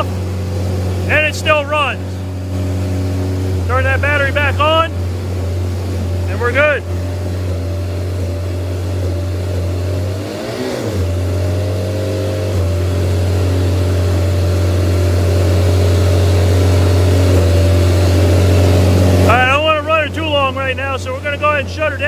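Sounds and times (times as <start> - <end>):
aircraft engine running: 0.0 - 22.0.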